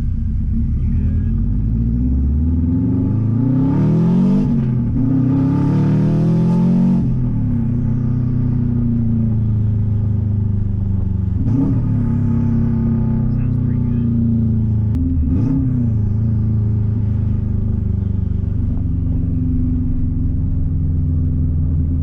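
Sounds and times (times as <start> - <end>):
car engine revving and droning: 0.0 - 22.0.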